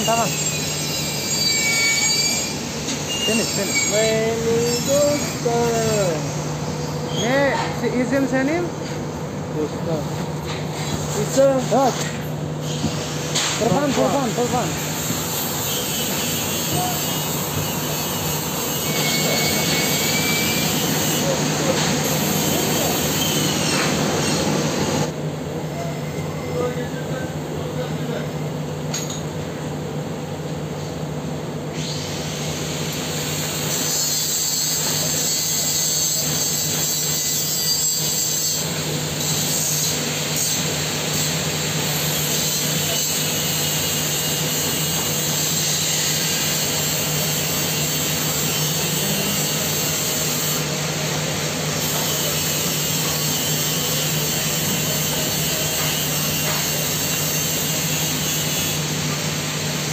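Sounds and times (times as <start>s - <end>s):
welding arc hiss and buzz: 0.0s - 25.2s, 31.7s - 59.9s.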